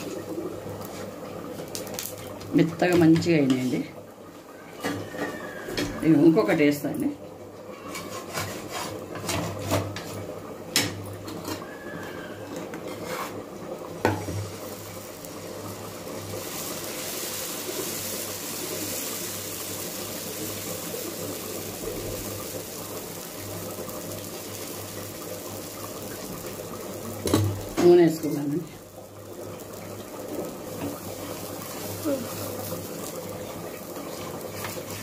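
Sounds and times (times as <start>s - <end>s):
batter sizzling on hot pan: 0.0s - 35.0s.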